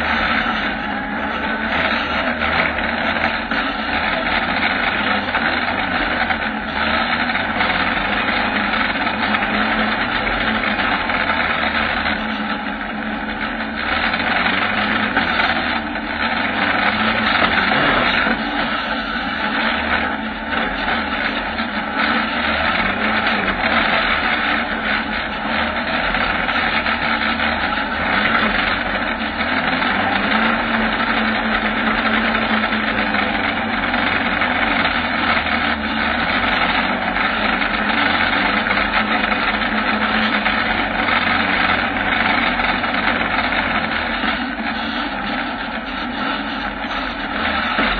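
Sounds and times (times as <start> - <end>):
buggy engine revving: 0.0 - 47.9.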